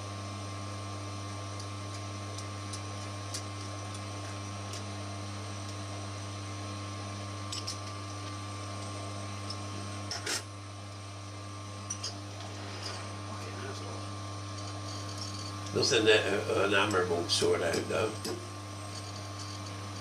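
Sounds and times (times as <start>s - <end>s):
low hum with faint whine: 0.0s - 20.0s.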